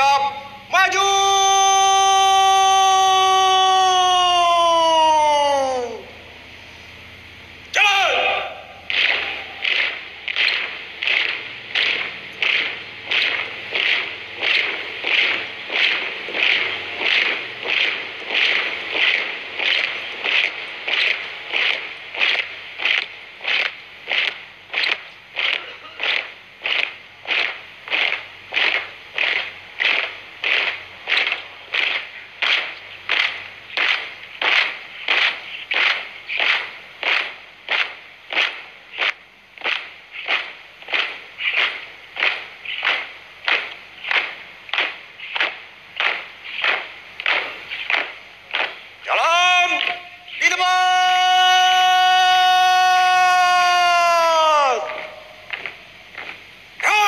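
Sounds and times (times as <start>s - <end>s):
boots stamping in unison: 8.0s - 57.0s.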